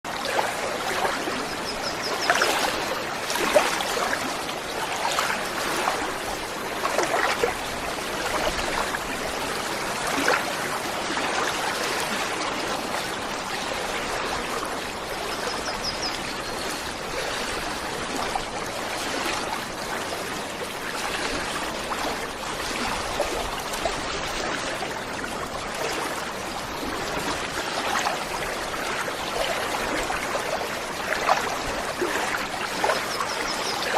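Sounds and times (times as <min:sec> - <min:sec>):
small waterfall splashing: 0:00.0 - 0:33.9.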